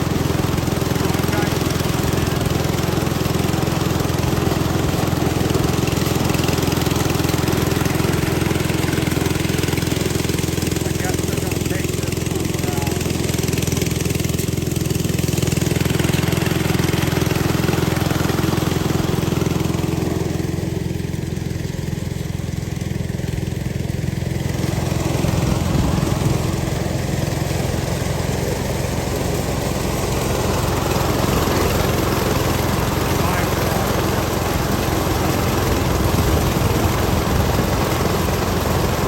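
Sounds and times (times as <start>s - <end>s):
corn sheller engine running: 0.0s - 39.0s.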